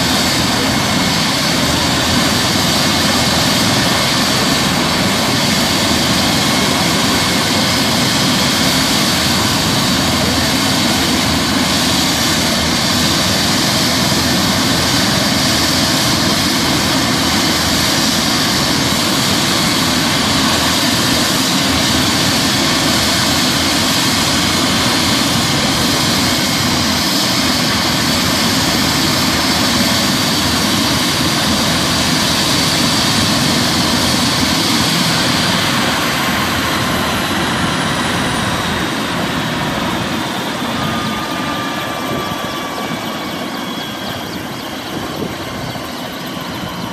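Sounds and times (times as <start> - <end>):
helicopter turbines whining: 0.0 - 46.9.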